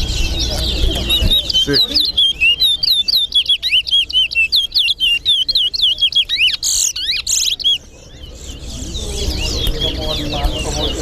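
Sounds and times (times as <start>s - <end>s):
finch singing whistled notes: 0.0s - 11.0s.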